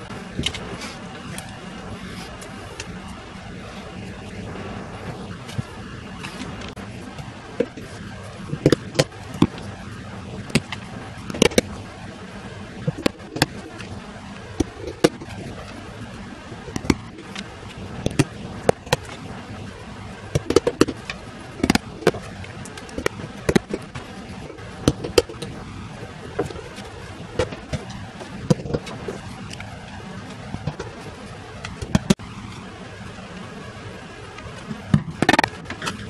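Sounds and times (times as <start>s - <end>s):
steady background hiss: 0.0s - 36.0s.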